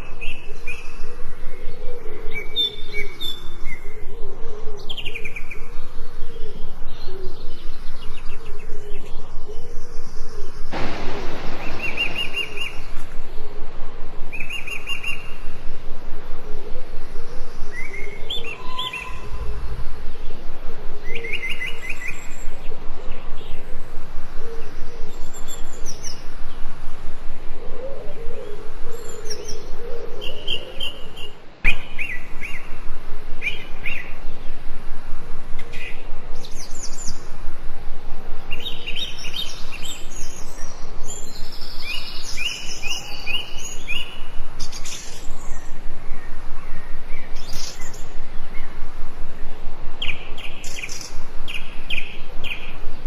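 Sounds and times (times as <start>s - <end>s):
lower bird calls: 0.0s - 34.7s, 38.4s - 53.0s
songbirds chirping and trilling: 0.0s - 53.0s
steady background hiss: 0.0s - 53.0s.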